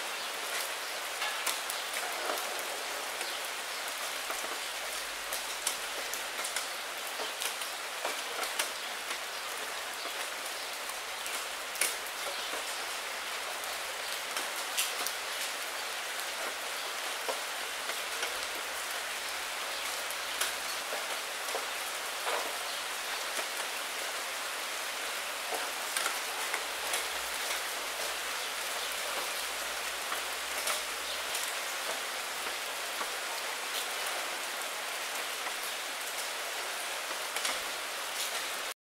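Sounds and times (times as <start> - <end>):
rain on a glass window: 0.0 - 38.8.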